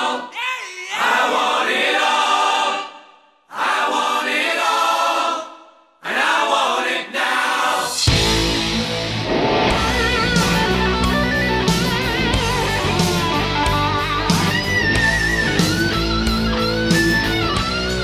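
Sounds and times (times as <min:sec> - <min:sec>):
choir-like voices holding chords: 0:00.0 - 0:18.0.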